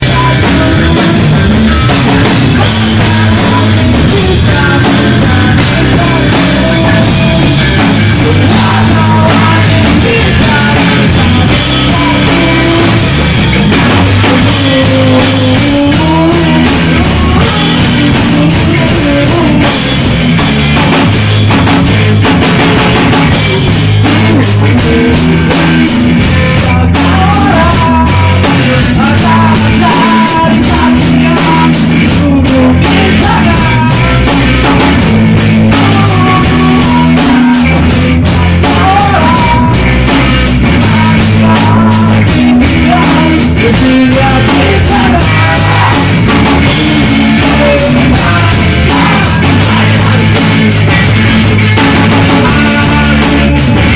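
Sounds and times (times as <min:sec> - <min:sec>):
drum kit: 0:00.0 - 0:53.9
rock band playing loudly: 0:00.0 - 0:53.9.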